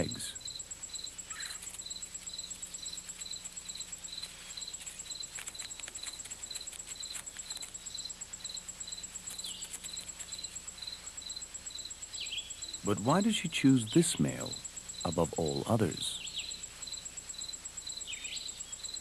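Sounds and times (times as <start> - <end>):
faint ticks and rustles: 0.0 - 19.0
insect chirping: 0.0 - 19.0
insect trill: 0.0 - 19.0.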